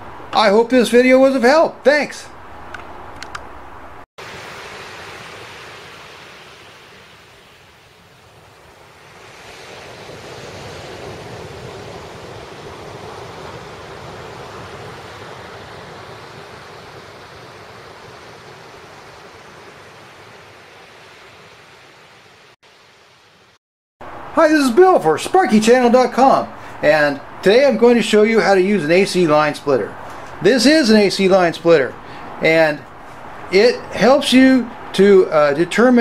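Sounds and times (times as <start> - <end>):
ocean waves breaking on beach: 4.2 - 36.0.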